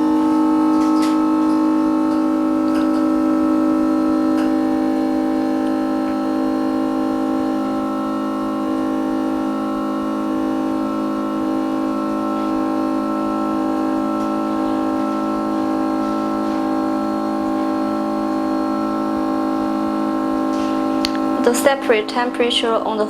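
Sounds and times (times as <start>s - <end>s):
held synthesizer chord: 0.0s - 23.0s.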